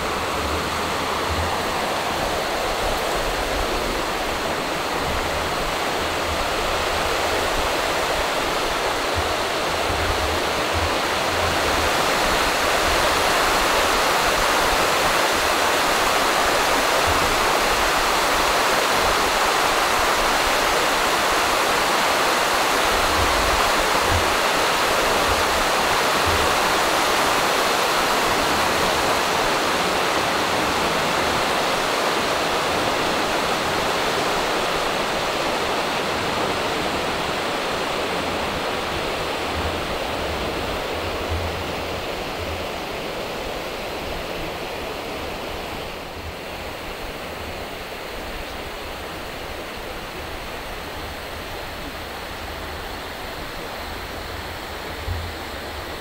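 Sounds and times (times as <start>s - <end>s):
stream rushing over stones: 0.0s - 56.0s.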